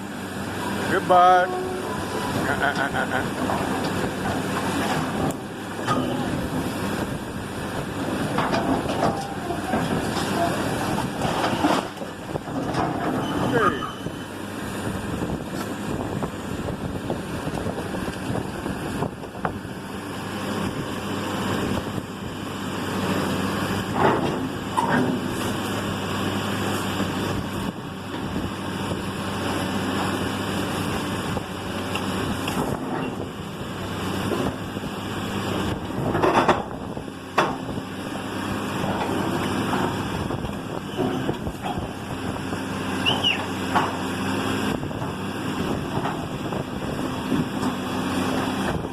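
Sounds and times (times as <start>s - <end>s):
demolition machinery engine running: 0.0s - 48.9s.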